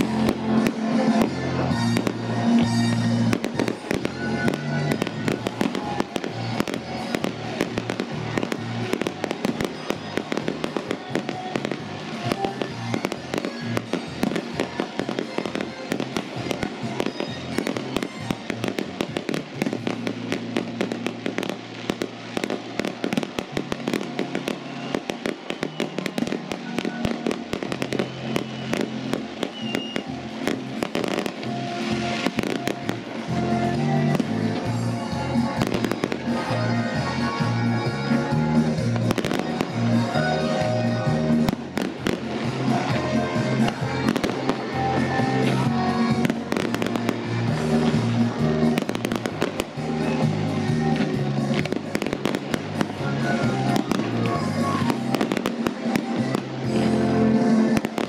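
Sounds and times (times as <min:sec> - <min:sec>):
fireworks bursting and crackling: 0:00.0 - 0:58.0
music playing: 0:00.0 - 0:58.0.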